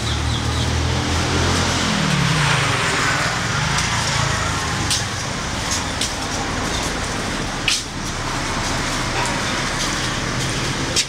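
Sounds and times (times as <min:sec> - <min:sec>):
cars passing on road: 0:00.0 - 0:11.0.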